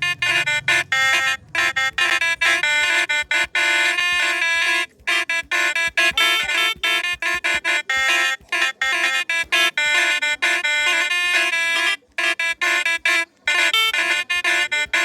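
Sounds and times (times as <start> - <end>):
horn playing a tune: 0.0 - 15.0.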